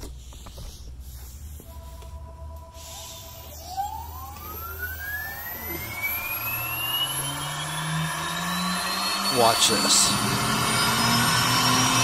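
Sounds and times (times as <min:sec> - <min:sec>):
machine hum: 0:00.2 - 0:12.0
spindle whine rising in pitch: 0:00.6 - 0:12.0.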